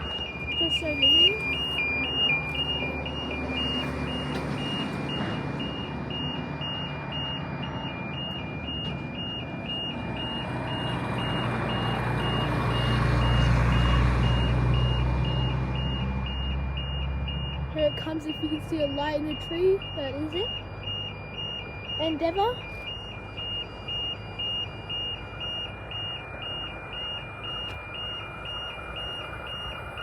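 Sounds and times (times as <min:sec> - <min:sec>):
diesel train rumble: 0:00.0 - 0:30.0
level crossing alarm: 0:00.0 - 0:30.0.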